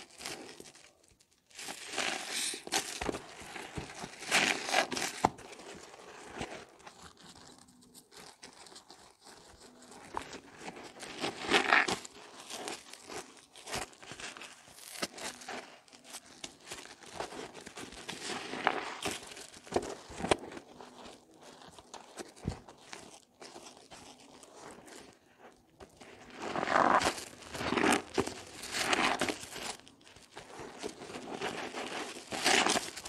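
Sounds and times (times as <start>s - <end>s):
wet soap squishing: 0.0s - 33.0s.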